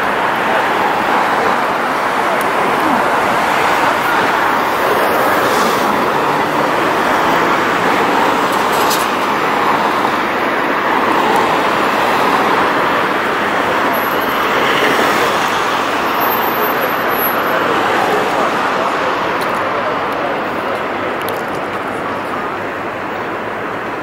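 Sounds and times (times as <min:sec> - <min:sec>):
steady road traffic: 0:00.0 - 0:24.0.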